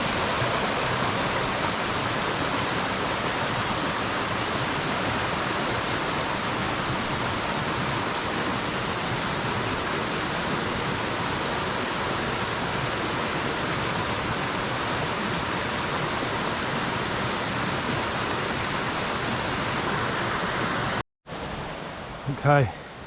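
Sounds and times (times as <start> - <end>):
waterfall cascading: 0.0 - 23.0.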